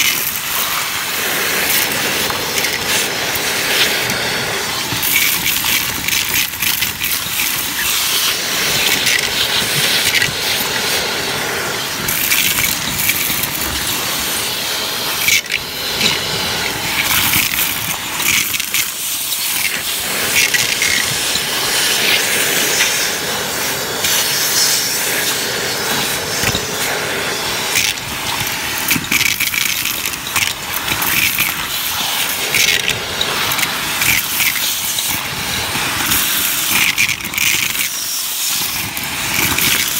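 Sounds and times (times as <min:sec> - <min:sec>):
debris crunching and rattling in tube: 0:00.0 - 0:39.9
vacuum cleaner air rush: 0:00.0 - 0:39.9.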